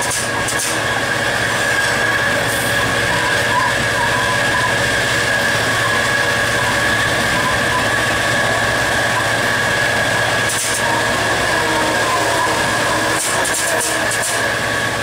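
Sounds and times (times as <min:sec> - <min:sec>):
diesel locomotive engine drone: 0:00.0 - 0:15.0
steady whine: 0:00.0 - 0:15.0
wheels rumbling on rail: 0:00.0 - 0:15.0.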